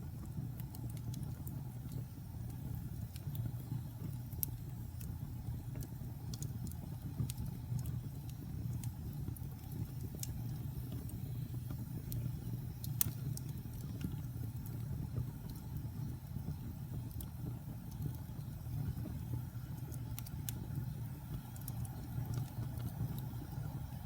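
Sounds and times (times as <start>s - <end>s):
burning logs crackling and popping: 0.0s - 24.0s
low rumble of flames: 0.0s - 24.0s.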